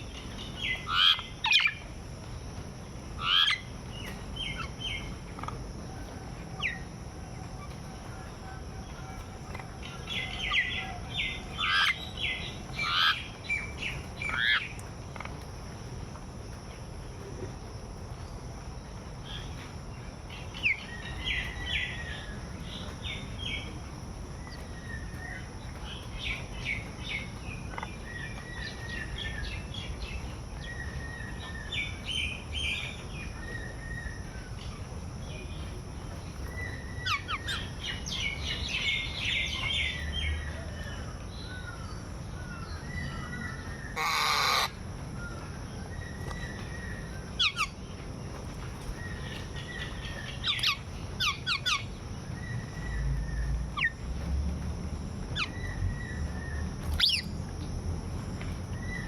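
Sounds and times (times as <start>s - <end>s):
small birds chirping: 8.8s - 16.0s, 18.1s - 59.0s.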